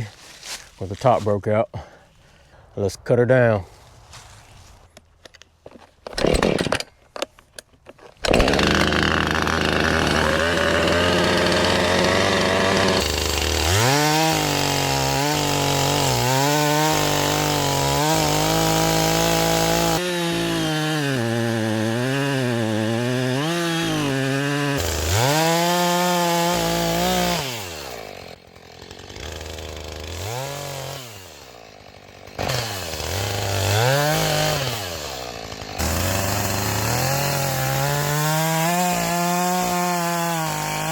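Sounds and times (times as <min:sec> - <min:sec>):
chainsaw cutting into trunk: 0:06.0 - 0:07.0, 0:08.2 - 0:40.9
chainsaw starting: 0:06.0 - 0:07.0, 0:08.2 - 0:40.9.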